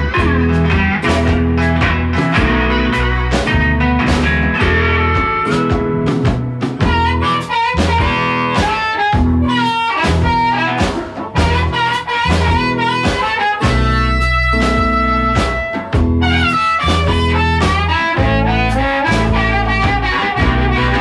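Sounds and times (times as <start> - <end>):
drums: 0.0 - 21.0
electric guitar: 0.0 - 21.0
pulsing bass: 0.0 - 21.0.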